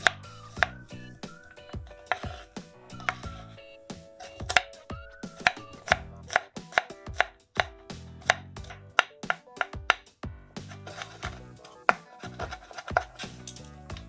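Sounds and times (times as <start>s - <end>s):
knife chopping on wooden board: 0.0s - 3.6s, 4.2s - 14.0s.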